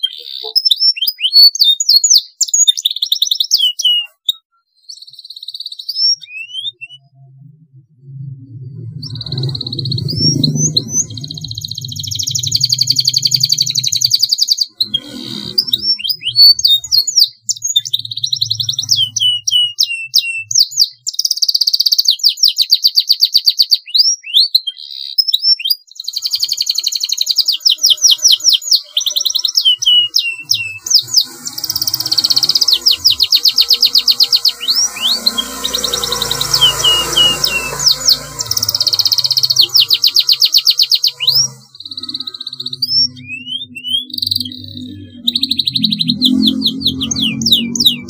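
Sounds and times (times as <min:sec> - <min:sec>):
canary singing trills: 0:00.0 - 0:48.0.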